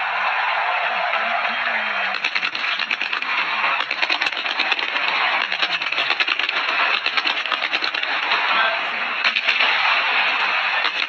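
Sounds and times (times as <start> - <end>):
pyrotechnics crackling: 2.1 - 11.0.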